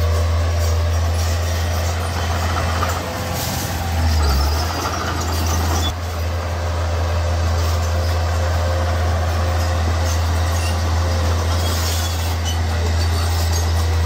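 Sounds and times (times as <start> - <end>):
heavy diesel engine under load: 0.0 - 14.0.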